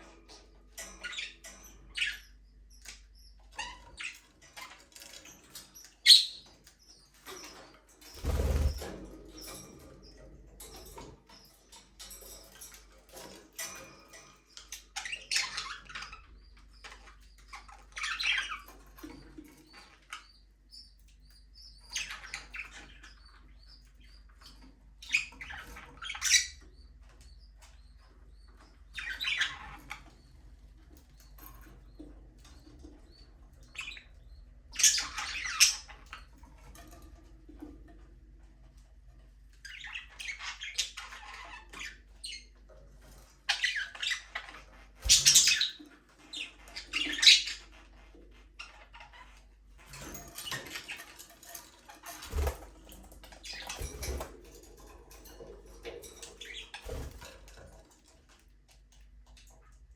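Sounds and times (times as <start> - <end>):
budgerigars chirping and chattering: 0.0 - 38.9, 39.5 - 58.0.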